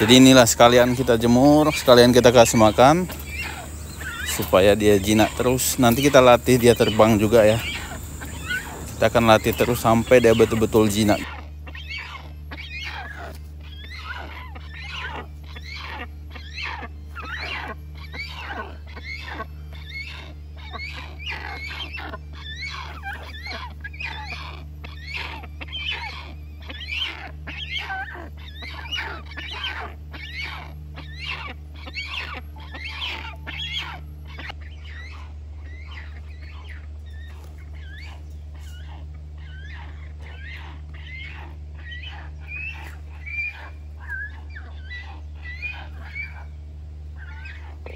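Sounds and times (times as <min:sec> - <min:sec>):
hornbill harsh calls: 0:00.0 - 0:47.9
steady low hum: 0:00.0 - 0:47.9.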